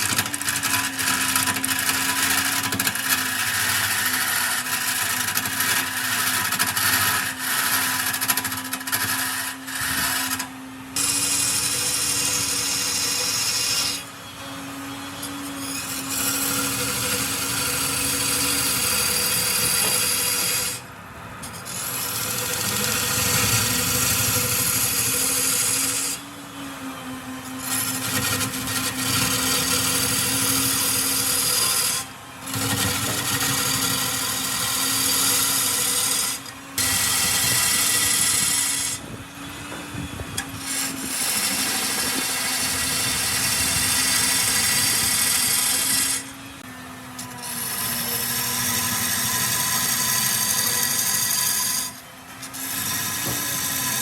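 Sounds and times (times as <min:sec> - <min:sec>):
tool scraping spinning wood: 0:00.0 - 0:14.0, 0:15.2 - 0:26.2, 0:27.4 - 0:54.0
wood lathe motor hum: 0:00.0 - 0:54.0.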